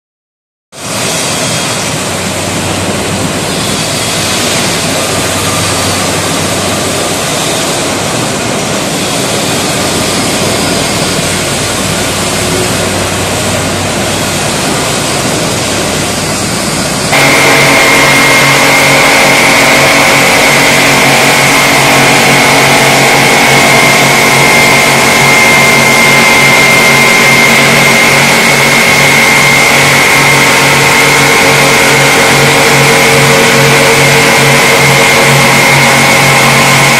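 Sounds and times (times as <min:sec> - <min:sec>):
steady high whine: 0:00.8 - 0:36.9
polishing wheels grinding on metal: 0:03.2 - 0:36.9.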